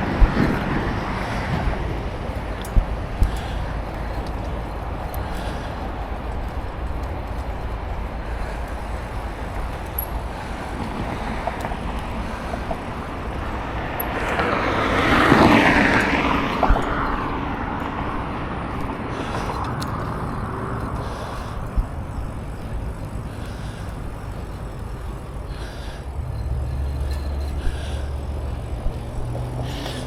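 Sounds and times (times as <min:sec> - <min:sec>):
motor vehicle passing: 0:00.0 - 0:30.0
wind rumble on microphone: 0:00.0 - 0:30.0.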